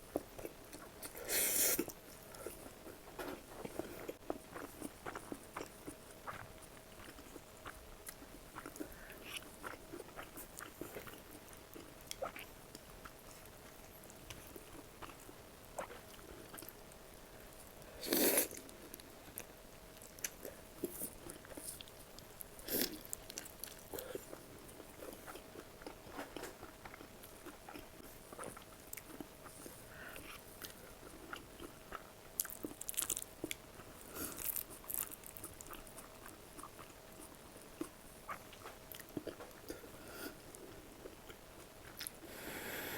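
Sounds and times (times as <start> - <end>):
crunchy chewing: 0.1 - 16.8, 18.1 - 39.8.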